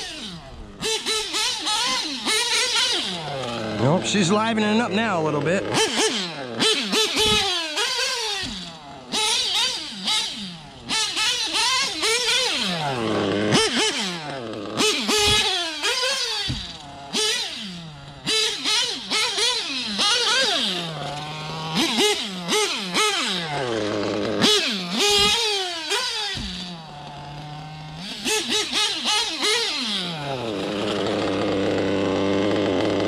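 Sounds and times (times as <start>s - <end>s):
model engine revving: 0.0s - 33.0s.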